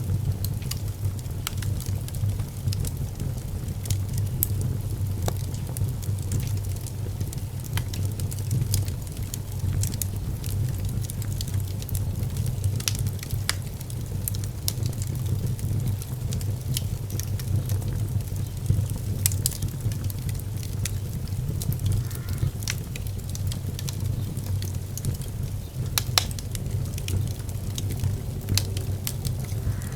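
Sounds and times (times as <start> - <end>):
fire crackling in fireplace: 0.0 - 29.9.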